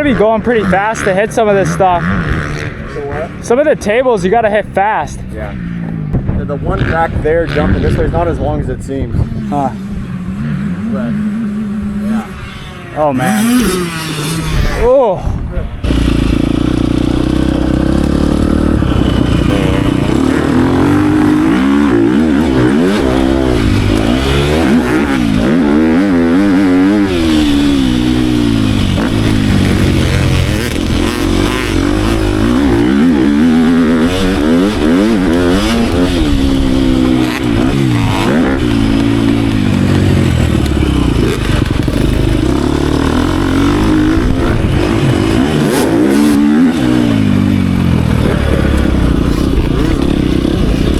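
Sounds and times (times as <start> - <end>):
dirt bike engine revving: 0.0 - 15.1, 15.8 - 50.9.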